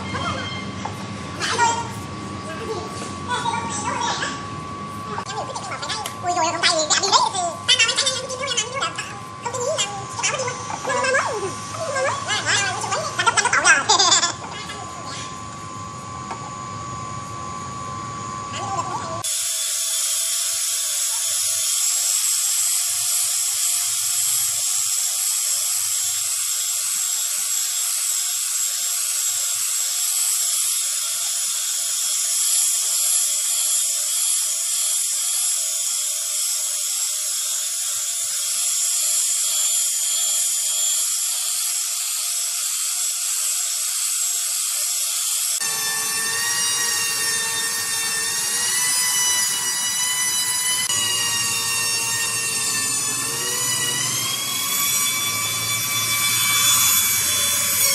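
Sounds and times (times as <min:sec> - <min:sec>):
power tool whining: 0:00.0 - 0:57.9.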